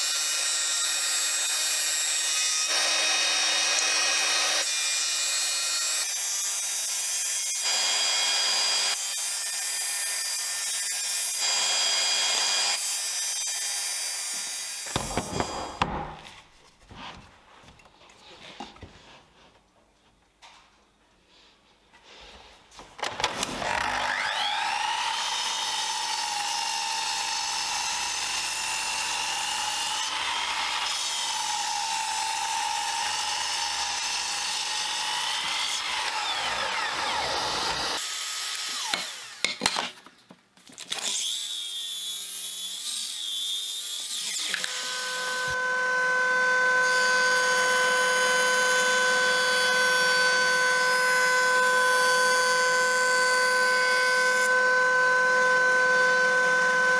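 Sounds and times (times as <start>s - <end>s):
mitre saw cutting wood: 0.0s - 16.2s, 23.2s - 39.9s, 40.9s - 56.9s.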